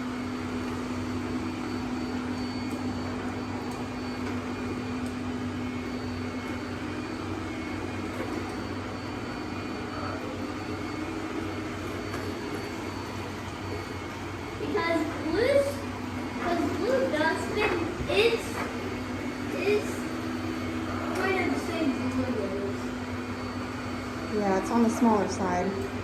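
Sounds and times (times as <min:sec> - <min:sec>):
robot vacuum cleaner humming: 0:00.0 - 0:26.0.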